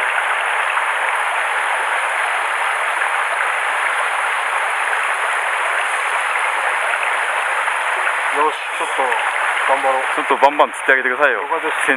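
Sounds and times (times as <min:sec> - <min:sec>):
stream flowing over rocks: 0:00.0 - 0:11.9.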